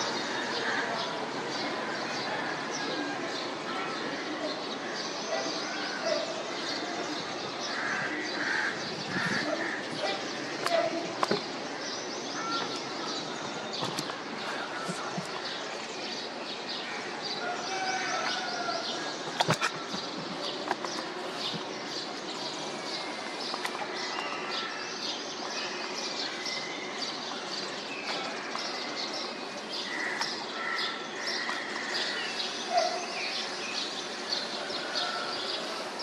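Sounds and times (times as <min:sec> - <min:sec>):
small birds chirping: 0:05.3 - 0:36.0.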